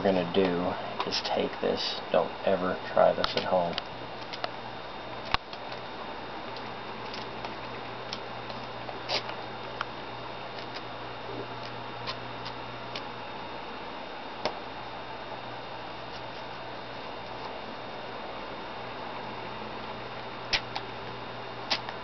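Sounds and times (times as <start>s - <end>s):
background hiss and low hum: 0.0s - 22.0s.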